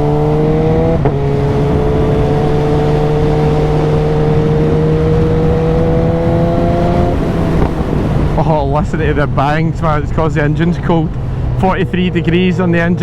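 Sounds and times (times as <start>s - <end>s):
motorcycle engine accelerating: 0.0s - 13.0s
wind and road noise: 0.0s - 13.0s.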